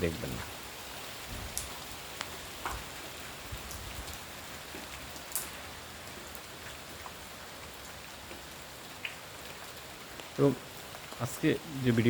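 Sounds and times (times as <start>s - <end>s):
raindrops ticking on surfaces: 0.0s - 12.0s
steady rain hiss: 0.0s - 12.0s.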